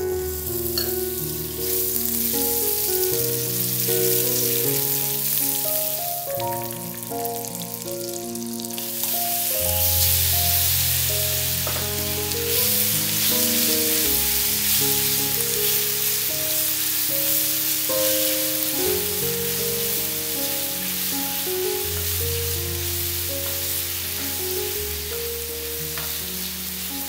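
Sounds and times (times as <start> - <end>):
background music: 0.0 - 27.0
butter and sugar sizzling in pan: 0.0 - 27.0.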